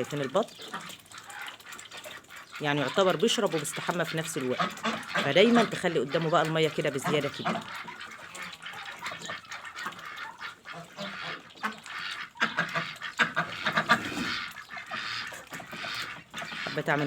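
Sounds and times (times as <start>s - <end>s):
ducks calling: 0.0s - 17.0s.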